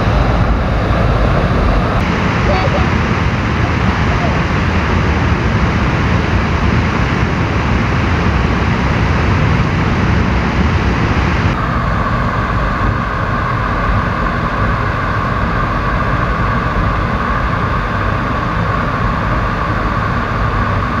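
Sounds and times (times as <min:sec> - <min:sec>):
drone propellers humming: 0:00.0 - 0:21.0
wind rushing: 0:00.0 - 0:21.0.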